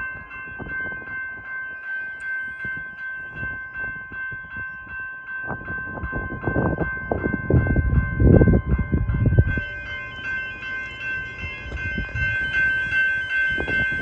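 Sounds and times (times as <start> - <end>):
level crossing bell ringing: 0.0 - 14.0
train rumbling: 0.0 - 14.0.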